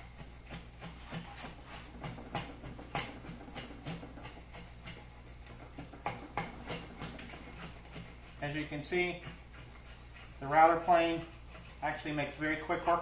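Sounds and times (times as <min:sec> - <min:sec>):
router plane scraping wood: 0:00.0 - 0:13.0.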